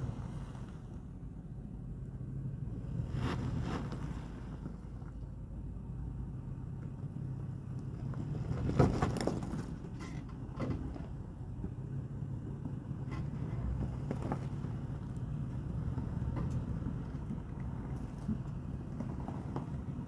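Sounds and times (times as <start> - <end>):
engine running low: 0.0 - 20.0.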